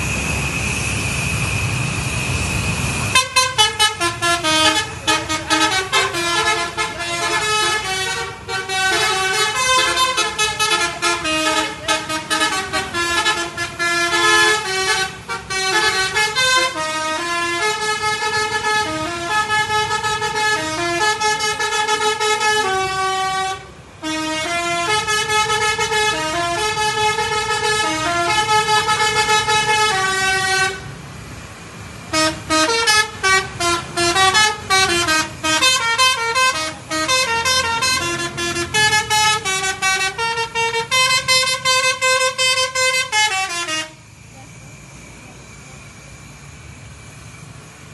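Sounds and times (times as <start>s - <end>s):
bus musical horn melody: 3.1s - 31.0s, 32.1s - 44.1s.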